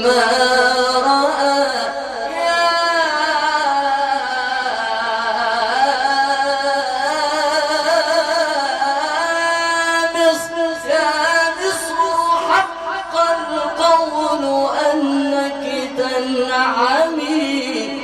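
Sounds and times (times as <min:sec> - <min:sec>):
man chanting religious melody: 0:00.0 - 0:18.0.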